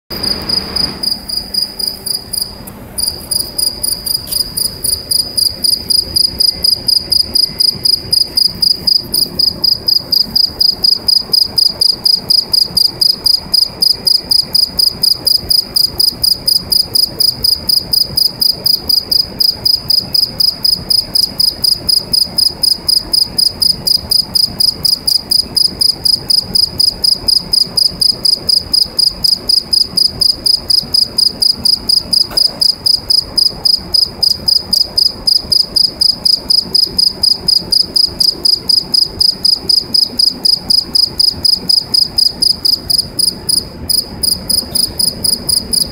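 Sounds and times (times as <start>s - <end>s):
cricket chirping in metal pipe: 0.1s - 45.9s.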